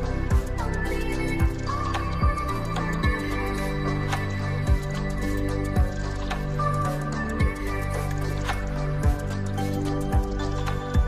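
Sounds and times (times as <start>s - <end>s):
background music with deep beat: 0.0s - 11.0s.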